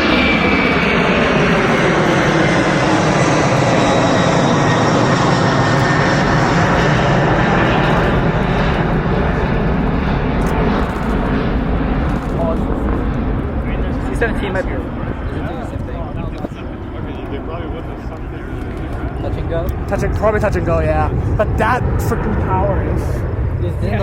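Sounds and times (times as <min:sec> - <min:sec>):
aircraft engine roar: 0:00.0 - 0:24.0.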